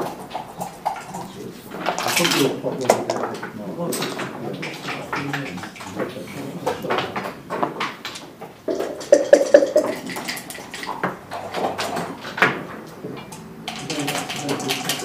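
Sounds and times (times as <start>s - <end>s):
game checkers clicking on board: 0.0s - 15.0s
rattling knocks: 0.0s - 15.0s.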